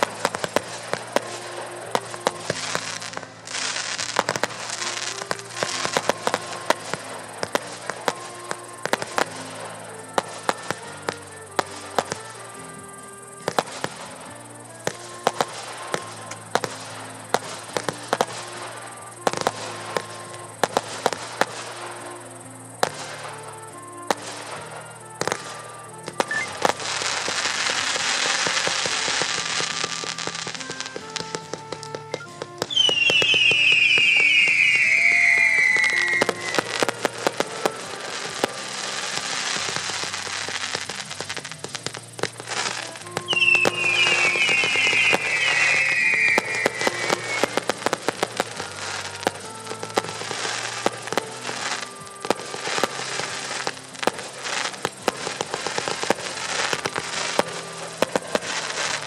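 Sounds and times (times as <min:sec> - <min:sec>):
fireworks bangs and pops: 0:00.0 - 0:59.0
music with sustained notes: 0:00.0 - 0:59.0.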